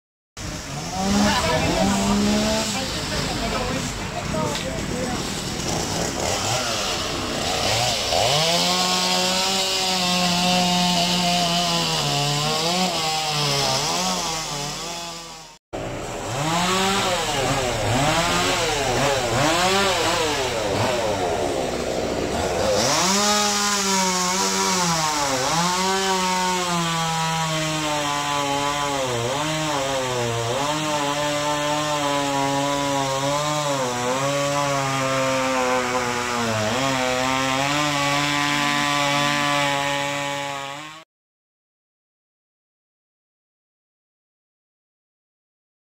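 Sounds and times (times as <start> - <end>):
chainsaw cutting wood: 0.4 - 41.1.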